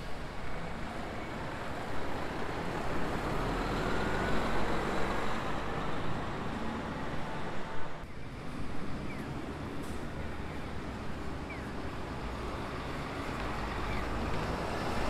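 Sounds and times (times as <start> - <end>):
coach engine and tyre noise: 0.0 - 15.0.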